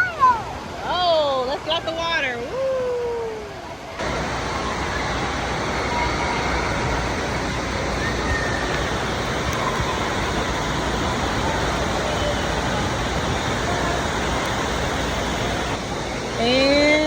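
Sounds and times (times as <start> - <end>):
faint distant voices: 0.0 - 17.0
rushing water park din: 0.0 - 17.0.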